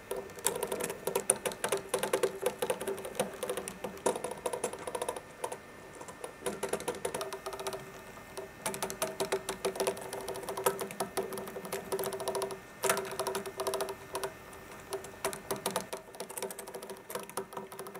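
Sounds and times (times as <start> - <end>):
mechanism clattering clicks: 0.0 - 17.9.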